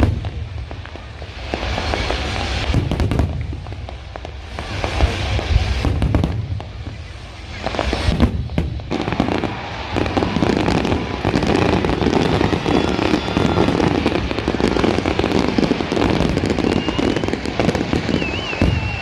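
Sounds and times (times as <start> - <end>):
fireworks bangs and crackling: 0.0 - 19.0
whistling rocket rising: 0.0 - 19.0.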